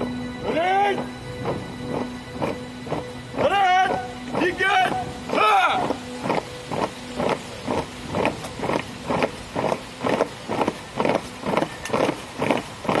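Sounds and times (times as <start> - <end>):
soldiers marching on asphalt: 0.4 - 13.0.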